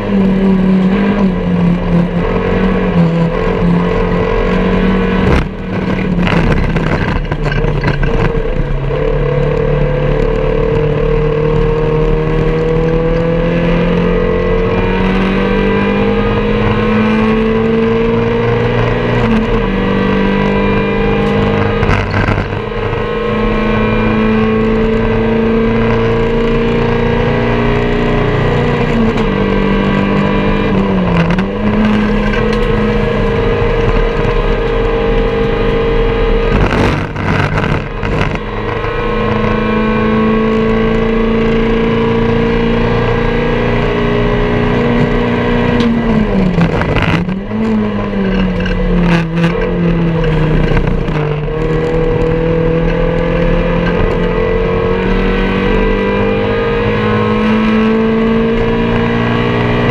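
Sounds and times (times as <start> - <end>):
race car engine pulling hard: 0.0 - 59.9.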